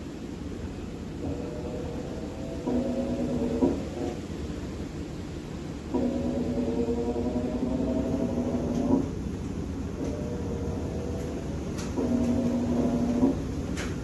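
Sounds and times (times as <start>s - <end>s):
washing machine motor whine: 0.0s - 14.0s.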